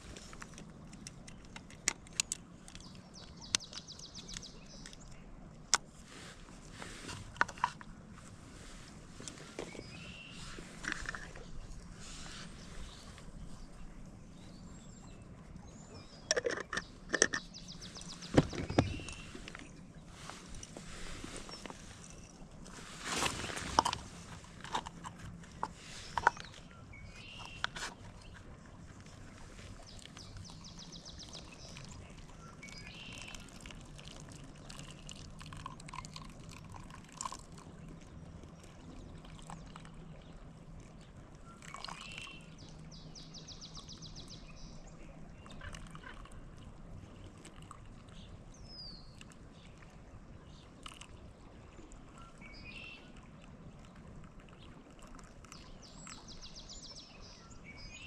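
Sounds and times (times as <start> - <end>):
flowing water: 0.0 - 58.0
songbirds trilling and chirping: 0.0 - 58.0.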